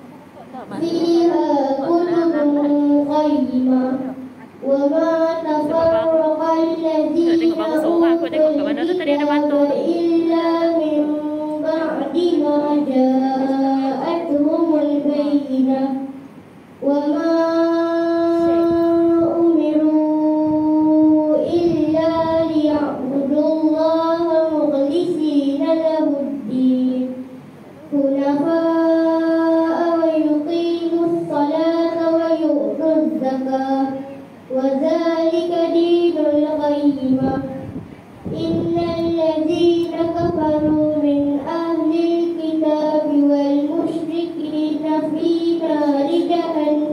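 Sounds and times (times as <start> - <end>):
child chanting melodically: 0.0 - 16.2, 16.8 - 46.9.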